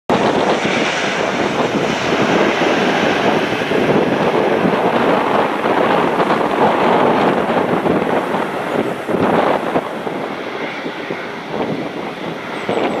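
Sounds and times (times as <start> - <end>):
jet engines rushing: 0.1 - 13.0.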